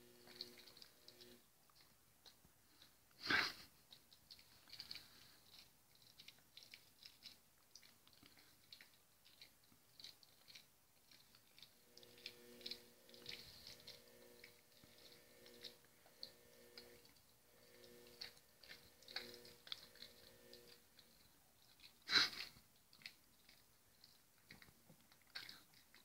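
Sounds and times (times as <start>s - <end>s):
dog chewing a treat: 0.2s - 26.0s.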